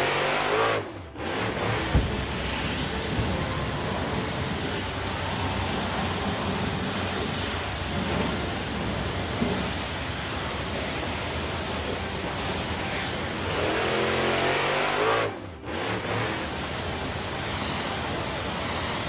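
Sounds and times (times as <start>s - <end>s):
water spray hissing: 1.3s - 14.2s, 15.7s - 19.0s.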